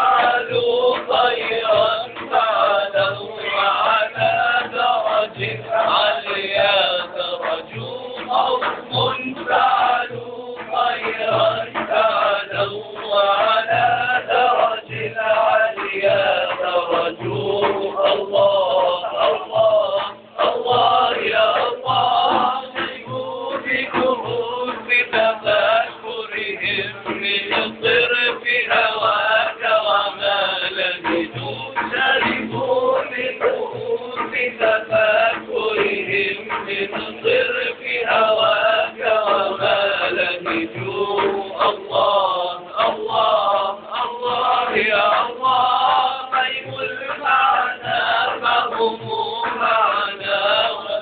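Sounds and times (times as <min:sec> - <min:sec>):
frame drum beat: 0:00.0 - 0:51.0
male voices singing together: 0:00.0 - 0:51.0.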